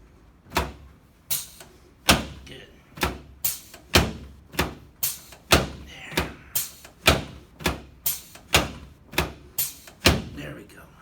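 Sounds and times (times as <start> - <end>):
sharp knocks: 0.5 - 10.4.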